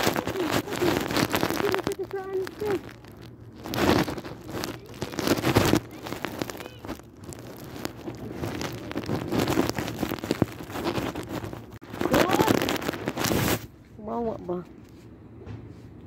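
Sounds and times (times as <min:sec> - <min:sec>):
rustling and crackling: 0:00.0 - 0:16.0.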